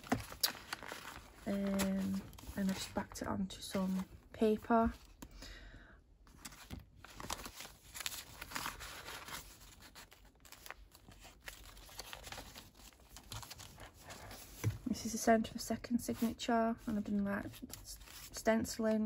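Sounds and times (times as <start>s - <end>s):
paper pages rustling and crinkling: 0.0s - 5.2s, 6.3s - 19.0s.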